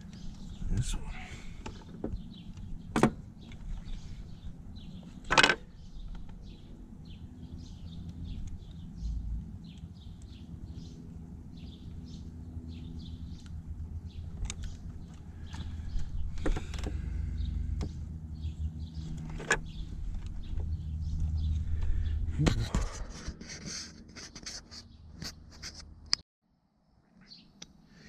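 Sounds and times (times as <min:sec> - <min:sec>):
birds chirping: 0:00.0 - 0:23.3, 0:27.2 - 0:27.6.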